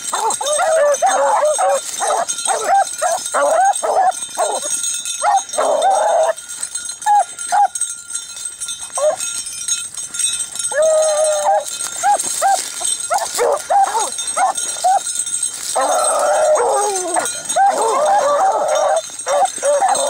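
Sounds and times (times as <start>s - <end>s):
dogs baying and yelping: 0.0s - 7.9s, 8.7s - 9.5s, 10.5s - 20.0s.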